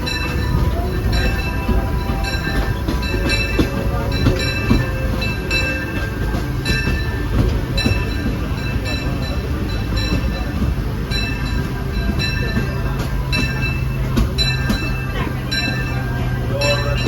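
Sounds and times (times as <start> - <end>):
steam train rumble: 0.0 - 17.0
train wheels clicking: 0.0 - 17.0.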